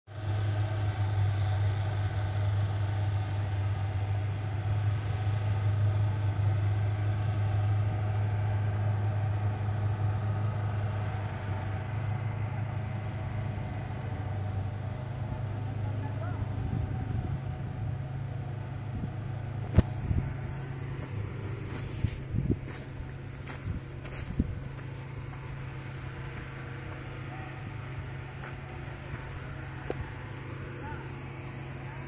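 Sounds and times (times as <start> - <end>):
harvester diesel engine drone: 0.1 - 32.0.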